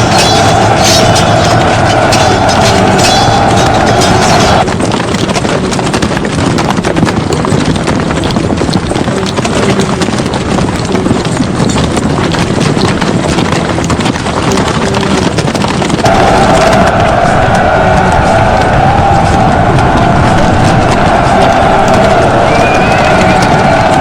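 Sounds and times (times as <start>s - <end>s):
horses galloping: 0.0s - 24.0s.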